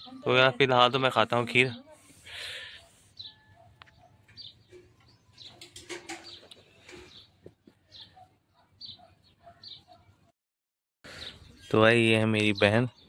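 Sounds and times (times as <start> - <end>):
birds chirping: 0.0 - 10.3, 11.0 - 13.0.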